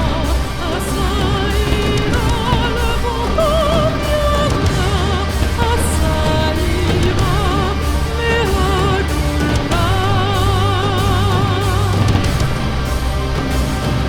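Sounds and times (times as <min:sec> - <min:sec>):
epic music with vibrato notes: 0:00.0 - 0:14.0
steady low bass: 0:00.0 - 0:14.0.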